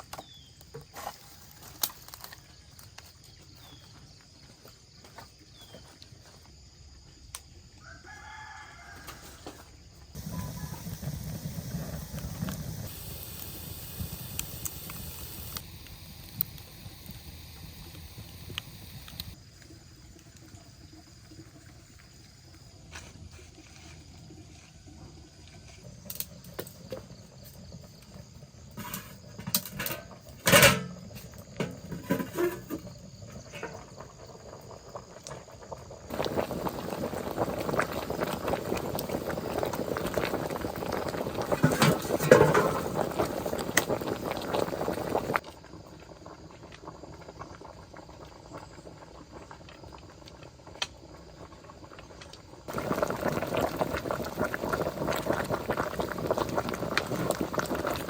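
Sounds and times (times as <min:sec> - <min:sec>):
pot of water boiling: 0:00.2 - 0:03.9, 0:09.0 - 0:58.0.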